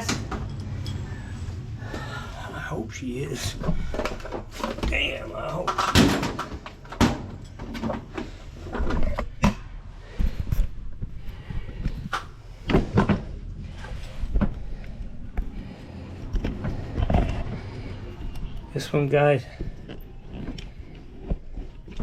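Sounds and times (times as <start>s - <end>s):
plumbing parts and tools clunking: 0.0s - 10.7s, 11.4s - 19.8s.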